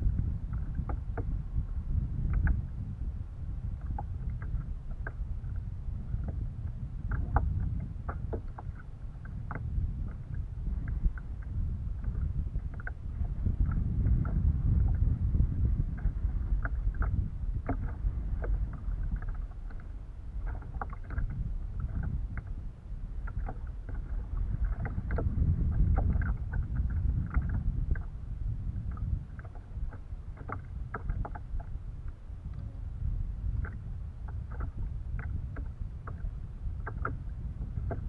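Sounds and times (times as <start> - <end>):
water splashing against hull: 0.0 - 38.0
wind on microphone: 0.0 - 38.0.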